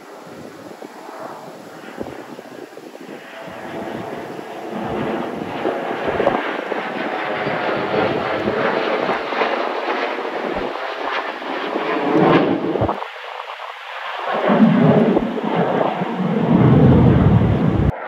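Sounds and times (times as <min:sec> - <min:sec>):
fighter jets flying past: 0:00.0 - 0:18.0.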